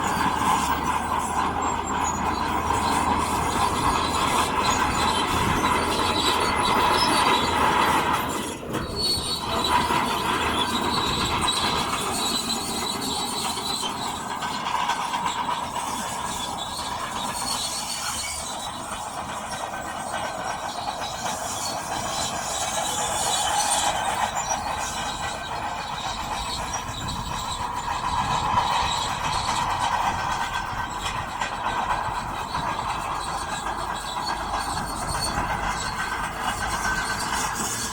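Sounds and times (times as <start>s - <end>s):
bulldozer running: 0.0s - 37.9s
metallic squeal of steel tracks: 0.0s - 37.9s.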